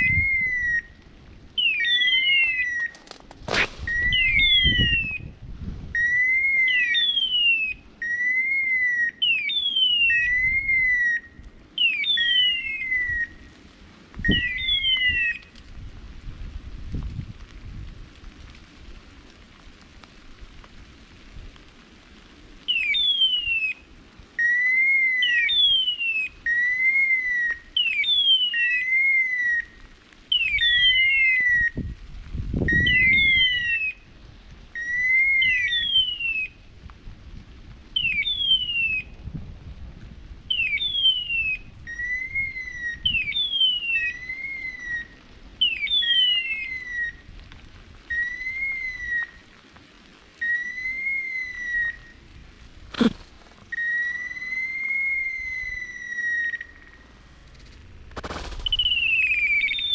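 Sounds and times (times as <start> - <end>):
rustle of brush or footsteps: 0.0 - 10.7, 11.4 - 59.9.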